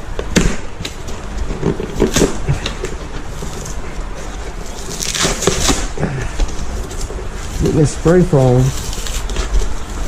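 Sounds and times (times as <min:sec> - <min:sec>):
foam packing crackling and scraping: 0:00.7 - 0:10.0.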